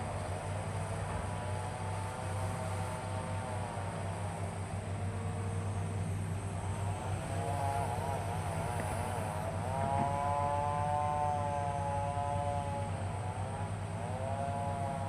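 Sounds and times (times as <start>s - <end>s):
excavator diesel engine hum: 0.0s - 15.0s
hydraulic whine: 0.0s - 15.0s.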